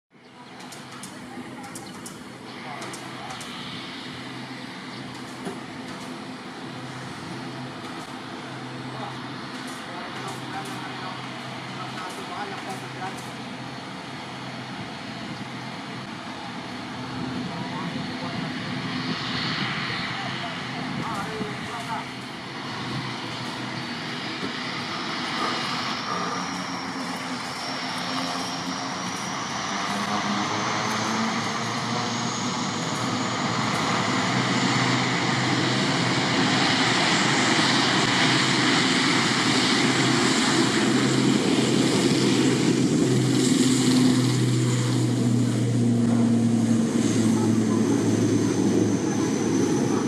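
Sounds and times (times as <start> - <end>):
turboprop engines roaring: 0.1 - 50.0
high turbine whine: 0.5 - 50.0.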